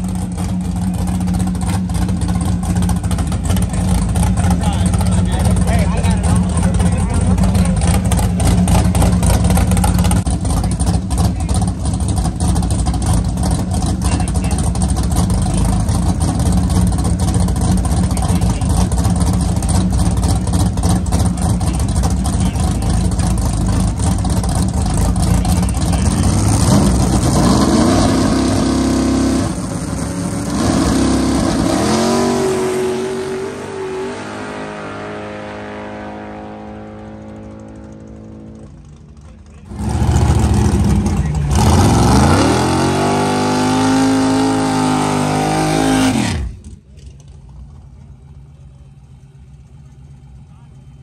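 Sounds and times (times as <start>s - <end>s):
car engine revving with crackle: 0.0s - 51.0s.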